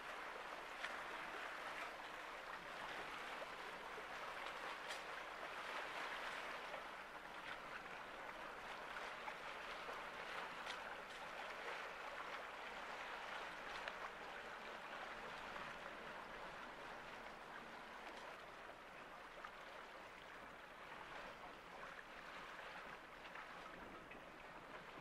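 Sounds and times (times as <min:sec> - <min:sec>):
water rushing along boat hull: 0:00.0 - 0:25.0.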